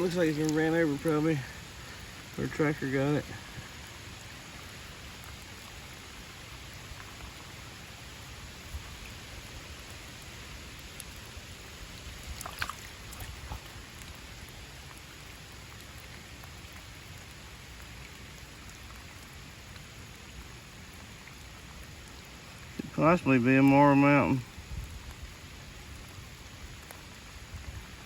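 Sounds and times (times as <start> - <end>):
pouring rain: 0.0 - 28.0.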